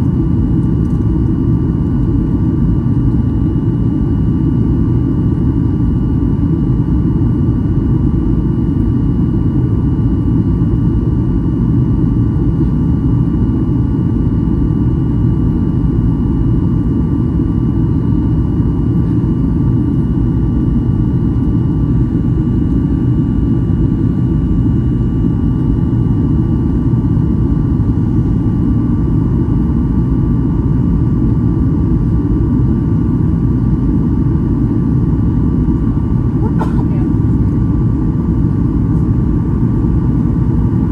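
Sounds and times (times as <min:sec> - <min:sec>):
airplane engine and airflow rumble: 0:00.0 - 0:40.9.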